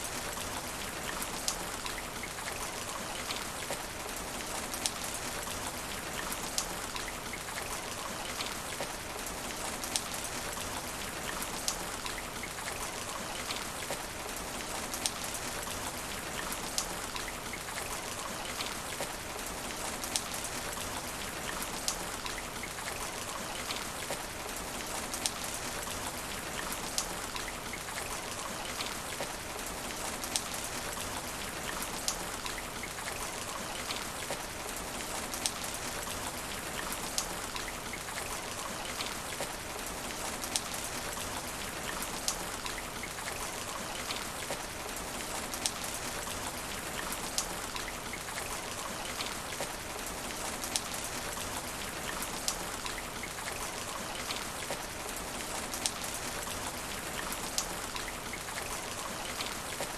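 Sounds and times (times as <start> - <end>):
rain falling on asphalt: 0.0 - 59.9.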